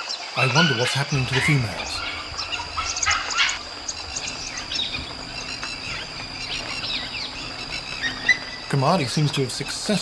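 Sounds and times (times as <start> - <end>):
high insect drone: 0.0 - 10.0
dholes squeaking and whistling: 0.4 - 9.9.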